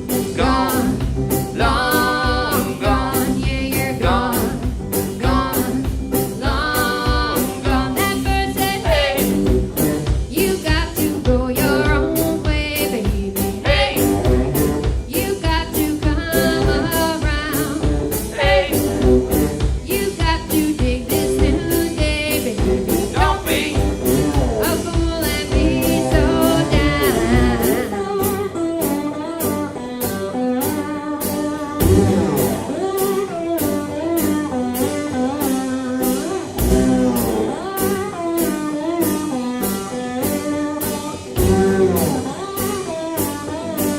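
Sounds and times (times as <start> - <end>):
steady drum beat: 0.0 - 28.5, 31.8 - 35.0, 36.0 - 38.1, 40.9 - 42.8
guitar: 0.0 - 43.9
person singing: 0.1 - 43.9.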